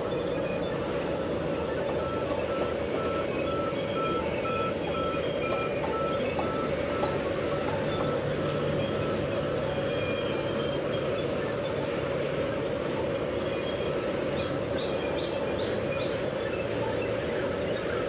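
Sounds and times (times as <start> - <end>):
band saw cutting log: 0.0 - 18.0.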